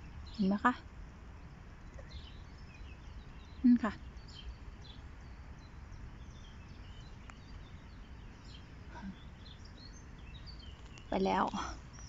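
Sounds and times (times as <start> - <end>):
low background rumble: 0.0 - 12.0
small birds chirping faintly: 0.0 - 12.0.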